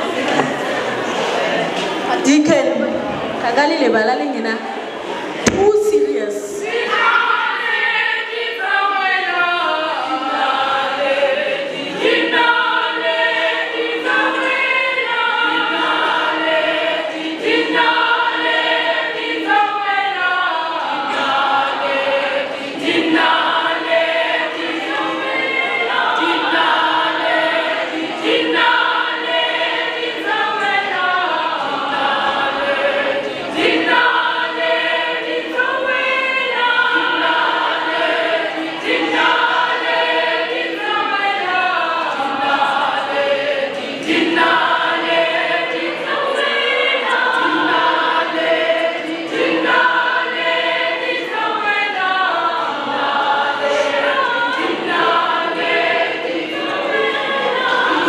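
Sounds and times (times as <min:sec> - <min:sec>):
choir singing in harmony: 0:00.0 - 0:02.3, 0:06.3 - 0:58.0.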